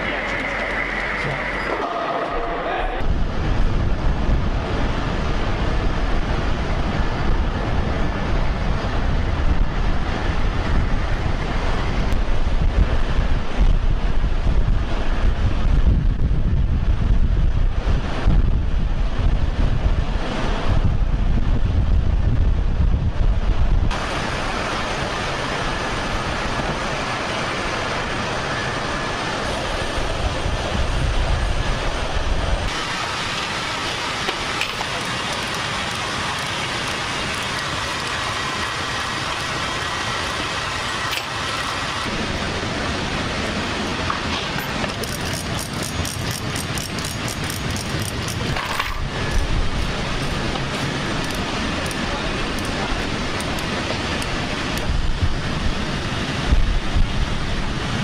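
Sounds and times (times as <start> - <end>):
engine and turbine rushing hiss: 0.0 - 58.0
low rumble of outdoor noise: 0.0 - 58.0.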